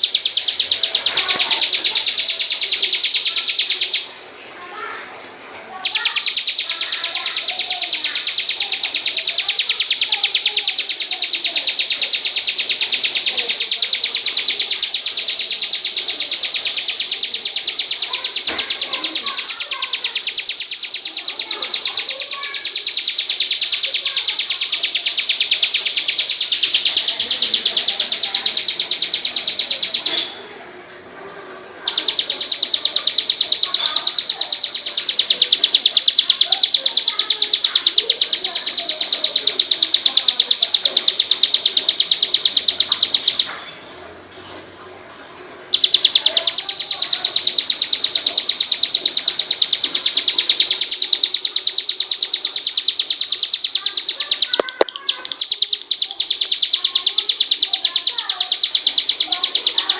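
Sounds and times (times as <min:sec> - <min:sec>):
bird trilling: 0:00.0 - 0:04.1, 0:05.8 - 0:30.4, 0:31.8 - 0:43.5, 0:45.7 - 0:59.9.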